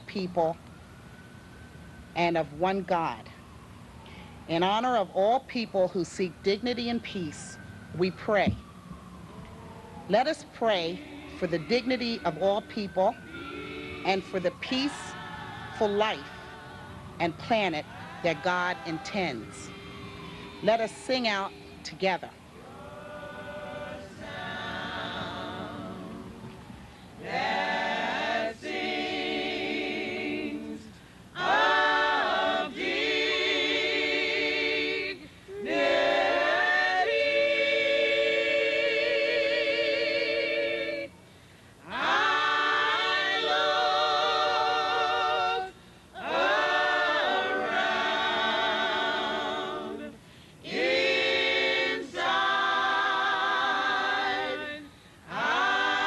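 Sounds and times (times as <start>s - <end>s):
women's choir singing a cappella: 10.1s - 41.2s, 41.8s - 56.0s.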